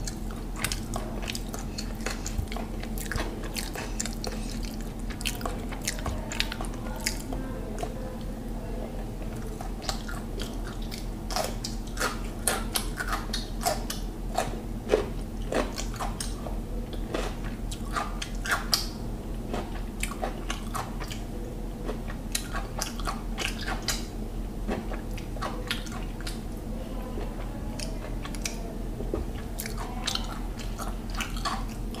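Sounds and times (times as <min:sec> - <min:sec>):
chewing and lip smacks: 0:00.0 - 0:08.0, 0:09.5 - 0:24.1, 0:24.7 - 0:26.6, 0:27.2 - 0:32.0
steady low hum: 0:00.0 - 0:32.0.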